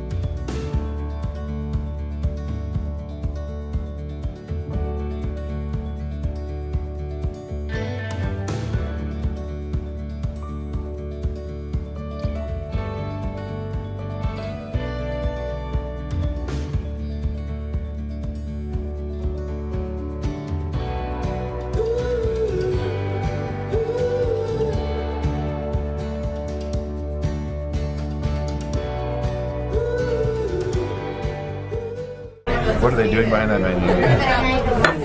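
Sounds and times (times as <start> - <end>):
background music with beat and guitar: 0.0 - 32.5.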